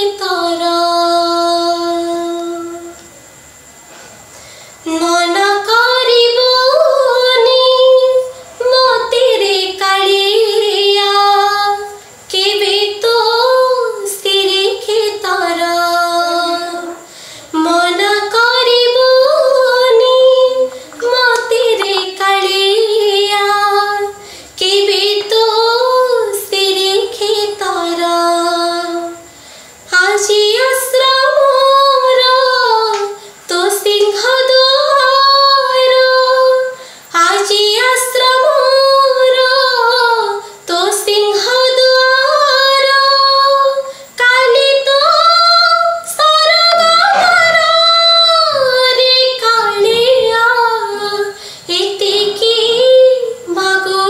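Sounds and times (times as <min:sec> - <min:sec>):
woman singing unaccompanied: 0:00.0 - 0:03.1, 0:04.8 - 0:54.0.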